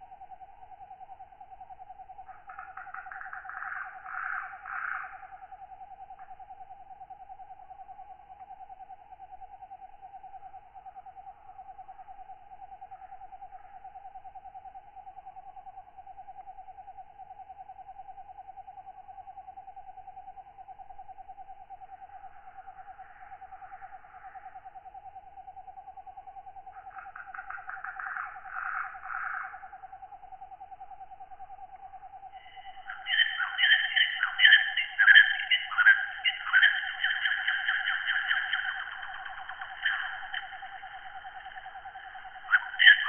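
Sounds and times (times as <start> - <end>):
insect chorus trilling: 0.0 - 43.0
loud pulsed insect calls: 0.0 - 43.0.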